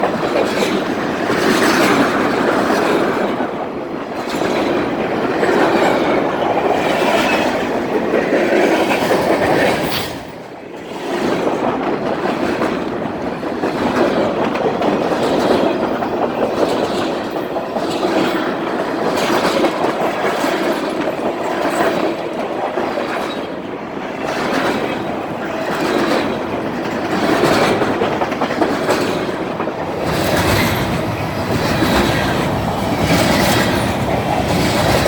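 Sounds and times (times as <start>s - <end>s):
train wheels clattering over rail joints: 0.0s - 35.0s.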